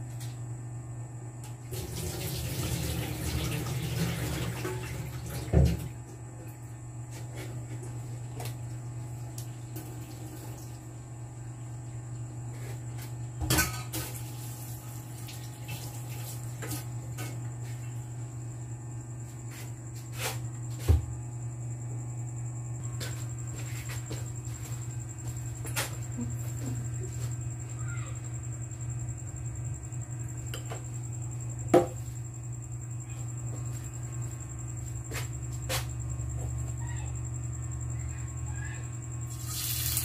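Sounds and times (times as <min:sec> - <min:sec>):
steady low hum: 0:00.0 - 0:01.8, 0:04.5 - 0:40.0.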